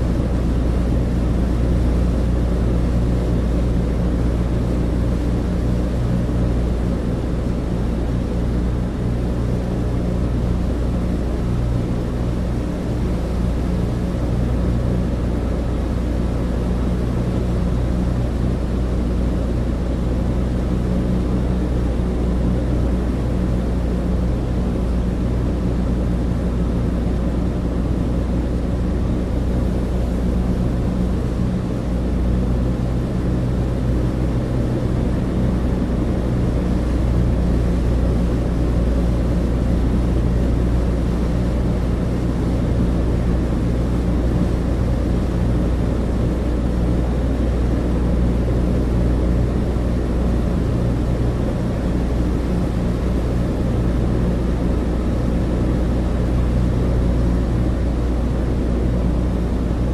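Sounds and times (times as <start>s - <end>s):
propeller engine drone in cabin: 0.0s - 59.9s.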